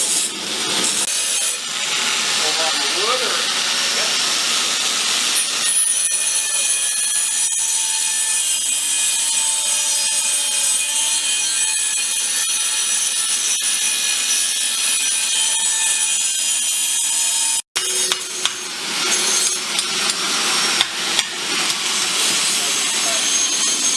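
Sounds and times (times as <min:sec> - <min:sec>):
power tool grinding steel: 0:00.0 - 0:23.9.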